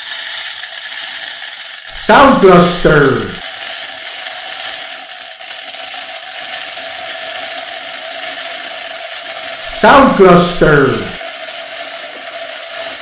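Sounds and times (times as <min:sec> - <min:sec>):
grain pouring: 0:00.7 - 0:13.0.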